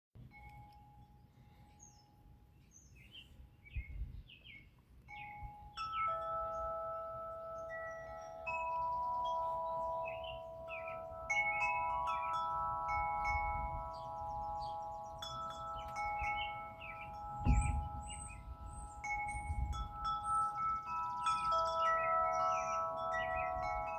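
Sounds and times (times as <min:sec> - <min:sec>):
wind chimes ringing: 0:00.2 - 0:02.4, 0:05.1 - 0:23.9
birds chirping: 0:00.4 - 0:23.9.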